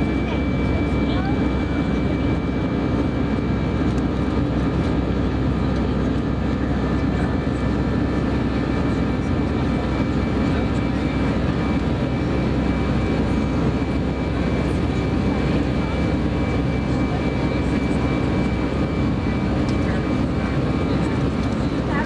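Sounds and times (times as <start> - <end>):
jet engines roaring in cabin: 0.0 - 22.0.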